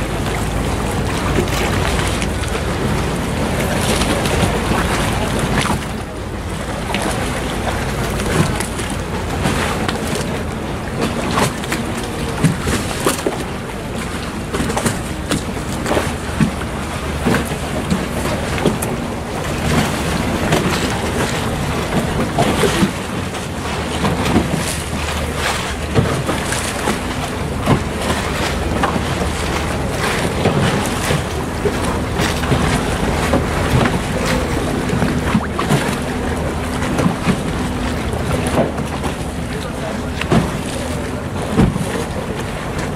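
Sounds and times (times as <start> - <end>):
low steady hum: 0.0 - 42.9
water splashing against hull: 0.0 - 42.9.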